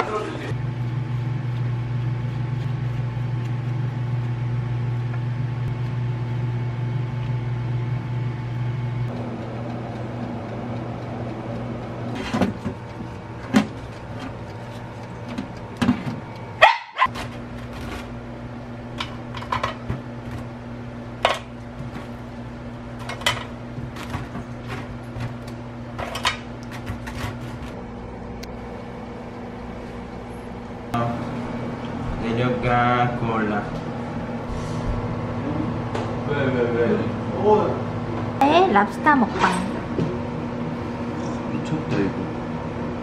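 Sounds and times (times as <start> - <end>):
electric appliance hum: 0.0 - 43.0.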